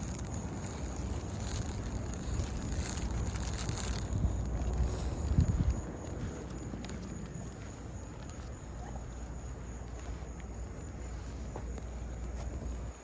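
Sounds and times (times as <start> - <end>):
insects trilling: 0.0 - 13.0
low rumble of outdoor noise: 0.0 - 13.0.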